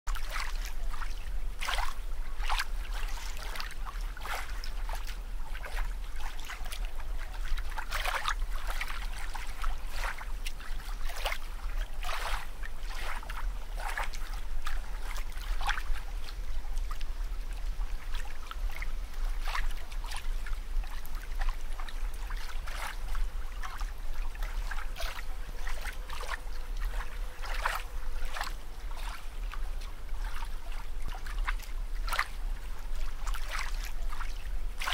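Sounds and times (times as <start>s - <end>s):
steady low hum: 0.1s - 34.9s
water sloshing: 0.1s - 34.9s.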